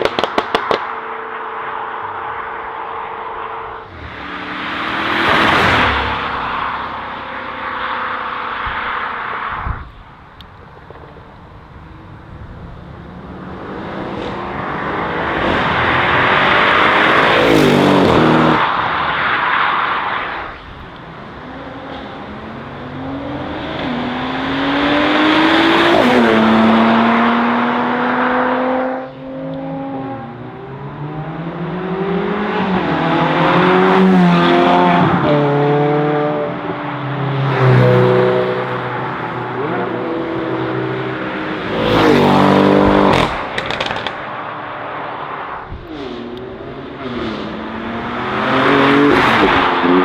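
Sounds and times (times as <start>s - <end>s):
sports cars accelerating past: 0.0s - 9.8s, 10.7s - 50.0s.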